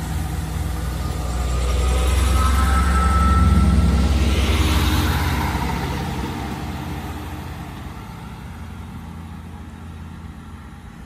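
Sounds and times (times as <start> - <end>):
diesel train rumble: 0.0 - 11.0
wheels rushing on rails: 0.0 - 11.0.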